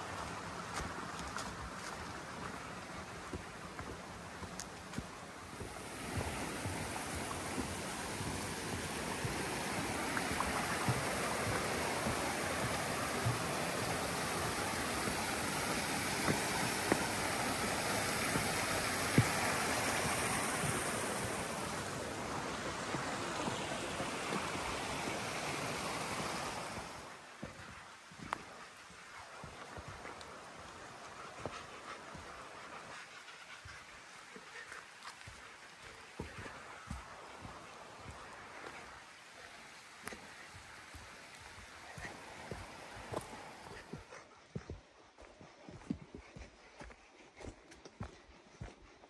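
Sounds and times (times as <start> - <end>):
running water rushing: 0.0 - 44.1.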